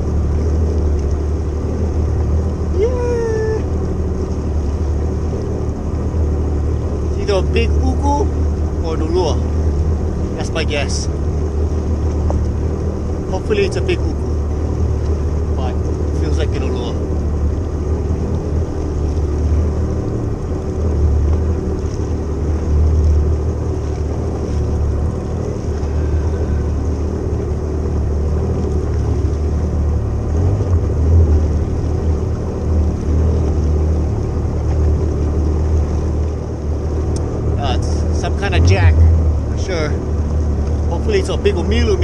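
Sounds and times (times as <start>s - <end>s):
jet ski engine idling: 0.0s - 42.0s.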